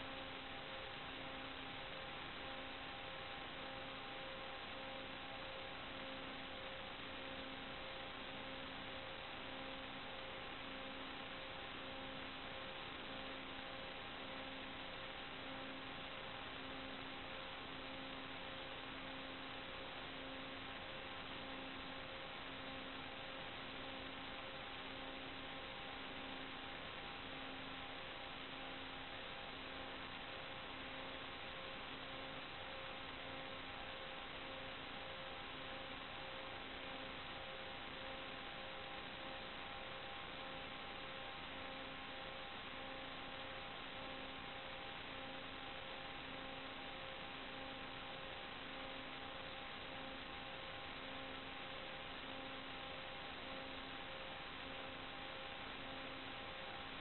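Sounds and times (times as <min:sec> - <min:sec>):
faint constant hum tones: 0:00.0 - 0:57.0
steady electronic hiss: 0:00.0 - 0:57.0.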